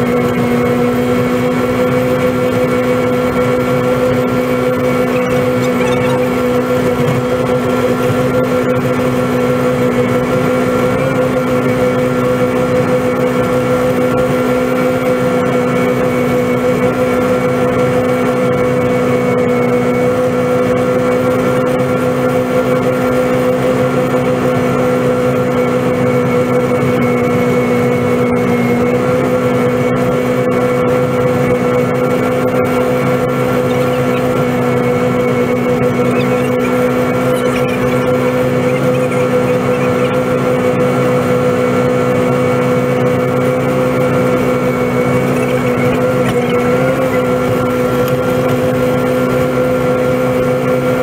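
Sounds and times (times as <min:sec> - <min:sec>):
snowblower engine running: 0:00.0 - 0:51.0.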